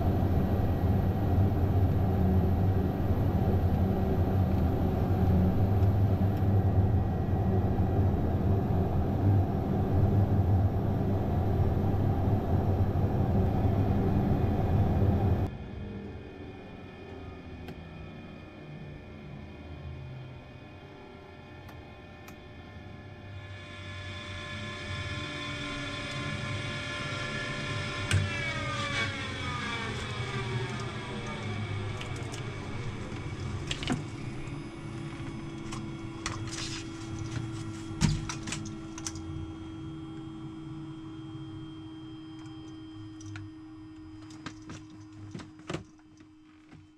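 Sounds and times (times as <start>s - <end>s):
steady hum: 0.0s - 15.6s, 19.1s - 46.9s
turboprop engine winding down: 0.0s - 46.4s.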